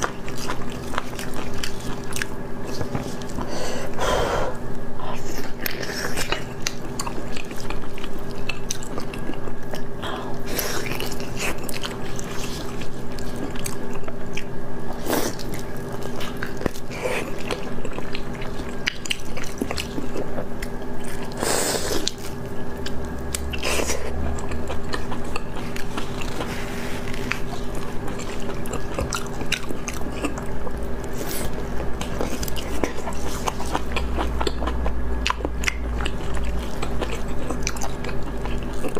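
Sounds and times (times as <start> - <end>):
wet chewing and biting: 0.0 - 3.5, 5.4 - 38.9
steady low hum: 0.0 - 38.9.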